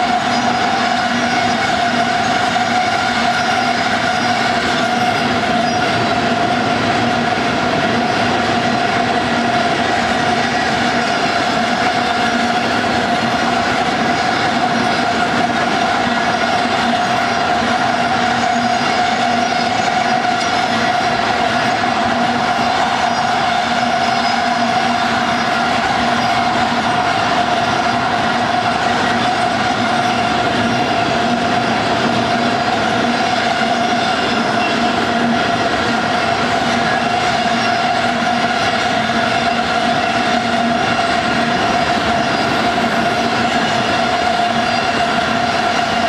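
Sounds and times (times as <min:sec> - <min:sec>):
steel wheels on rail: 0:00.0 - 0:46.0.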